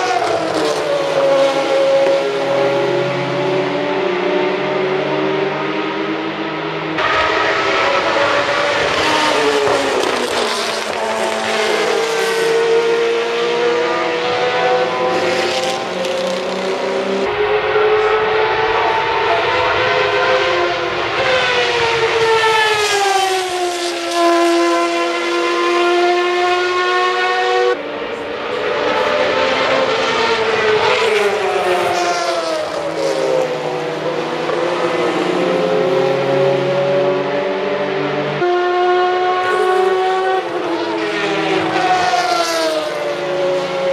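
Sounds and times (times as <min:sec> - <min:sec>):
race cars passing: 0:00.0 - 0:43.9.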